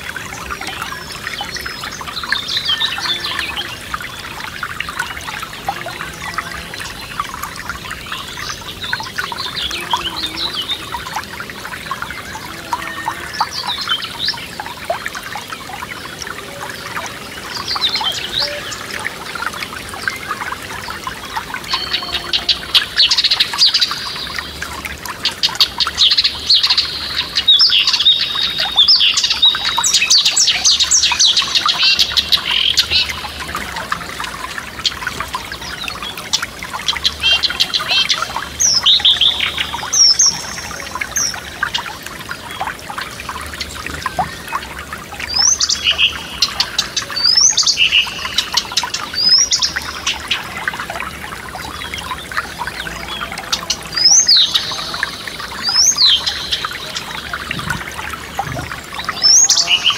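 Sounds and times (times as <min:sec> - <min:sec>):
songbirds singing: 0:00.0 - 0:59.9
stream trickling: 0:00.0 - 0:59.9.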